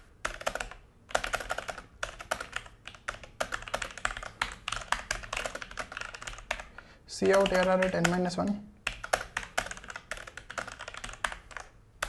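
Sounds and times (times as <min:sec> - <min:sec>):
mechanical keyboard typing: 0:00.2 - 0:11.8.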